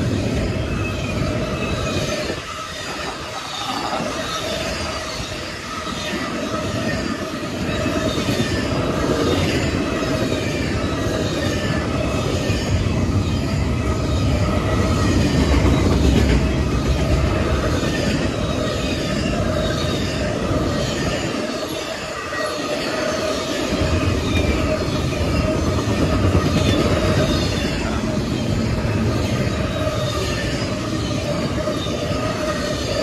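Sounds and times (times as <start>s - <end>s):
steel wheels rumbling on rail: 0.0s - 33.0s
thin steady wheel squeal: 0.0s - 33.0s.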